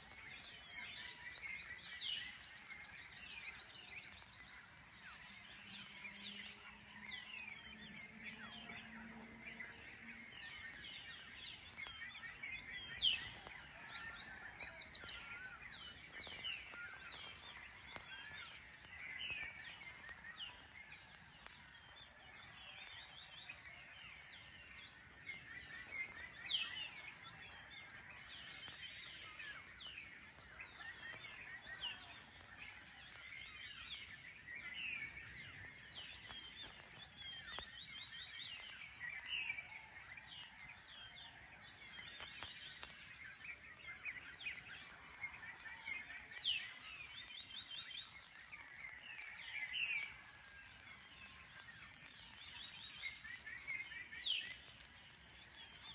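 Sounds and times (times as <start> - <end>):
birds chirping: 0.0 - 55.9
faint outdoor hiss: 0.1 - 55.9.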